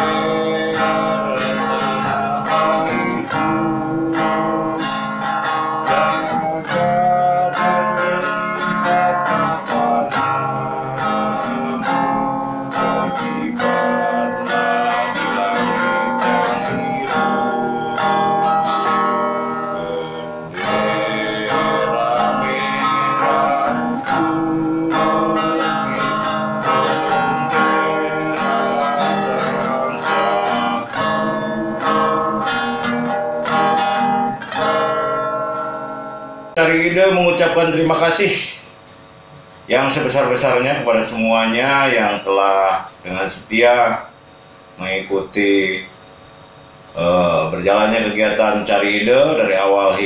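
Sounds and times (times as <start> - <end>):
guitar strumming through amplifier: 0.0 - 50.0.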